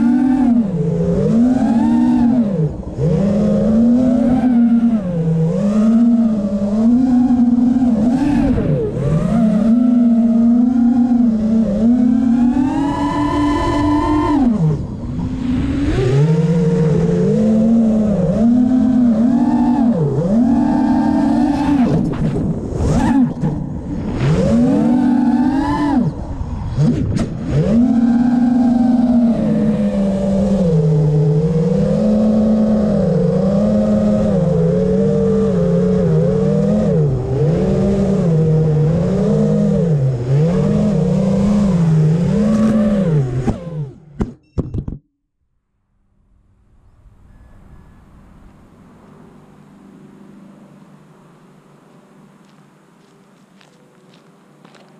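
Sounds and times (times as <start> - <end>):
quadcopter motors whining: 0.0 - 44.1.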